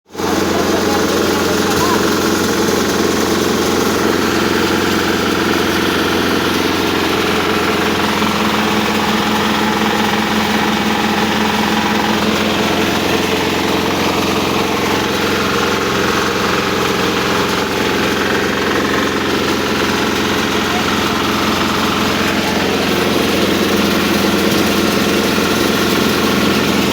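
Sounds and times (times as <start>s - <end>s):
diesel engine running: 0.1s - 26.9s.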